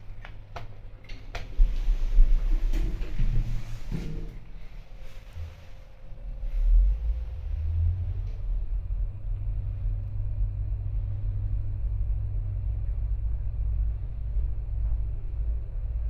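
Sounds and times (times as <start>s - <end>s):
elevator low rumble: 0.0s - 16.0s.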